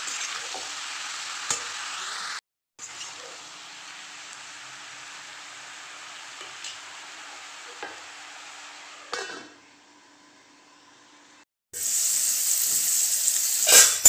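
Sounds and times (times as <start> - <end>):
meat and onion sizzling in a pan: 0.0 - 10.1, 11.8 - 14.0.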